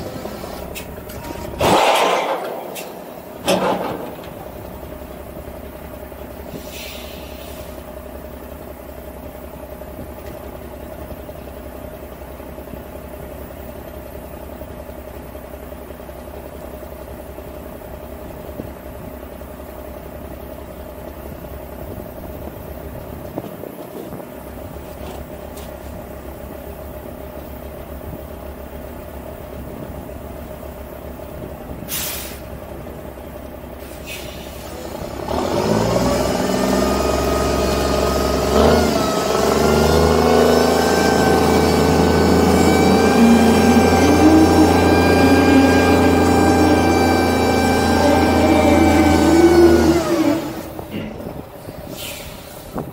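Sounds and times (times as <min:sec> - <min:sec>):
diesel truck idling: 0:00.0 - 0:52.9.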